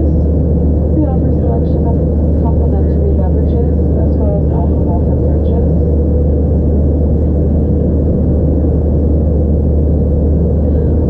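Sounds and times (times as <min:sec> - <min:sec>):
air rushing over fuselage: 0:00.0 - 0:11.0
jet engine drone in cabin: 0:00.0 - 0:11.0.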